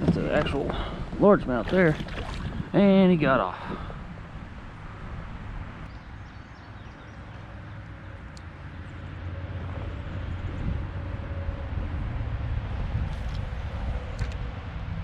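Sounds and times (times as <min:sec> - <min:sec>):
river rumble: 0:00.0 - 0:15.0.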